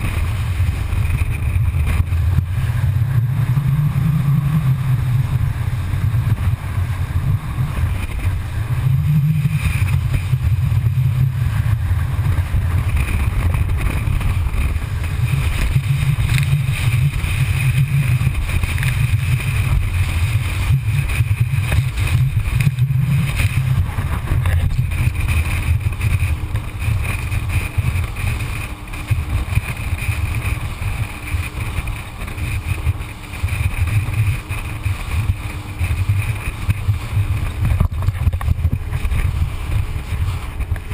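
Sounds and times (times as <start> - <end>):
muffled boat engine and rushing water: 0.0 - 40.9.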